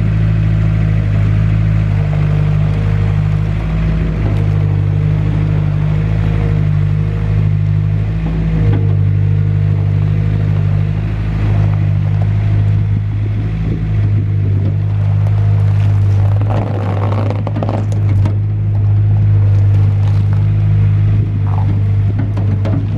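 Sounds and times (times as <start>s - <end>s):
diesel engine droning: 0.0s - 22.9s.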